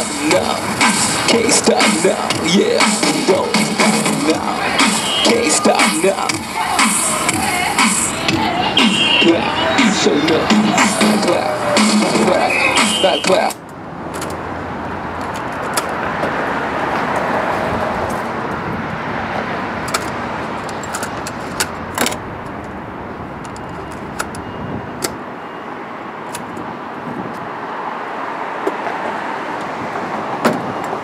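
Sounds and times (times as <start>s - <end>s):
road traffic: 0.0s - 31.0s.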